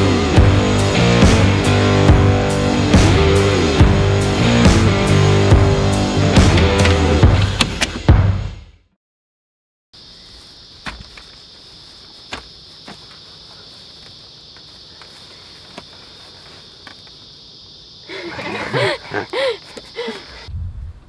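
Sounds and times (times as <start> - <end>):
insect chorus drone: 0.0 - 7.6, 10.0 - 20.6.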